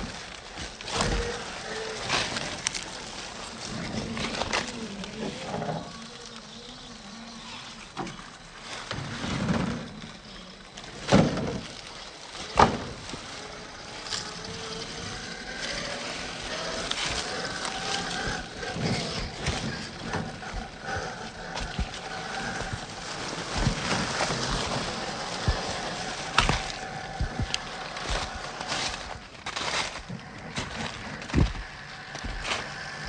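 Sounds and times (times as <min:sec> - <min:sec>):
faint electric motor whine: 0:00.0 - 0:33.0.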